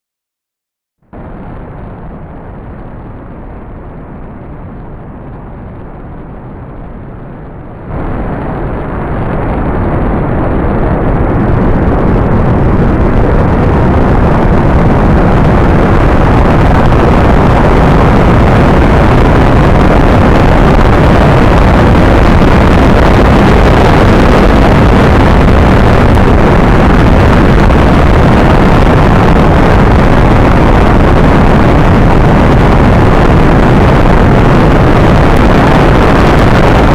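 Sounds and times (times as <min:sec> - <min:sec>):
rocket launch rumble: 0:01.1 - 0:36.9.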